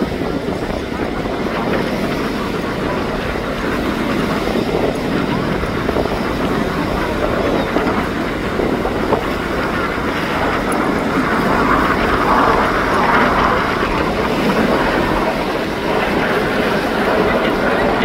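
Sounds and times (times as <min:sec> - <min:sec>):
aircraft engine flying past: 0:00.0 - 0:18.0.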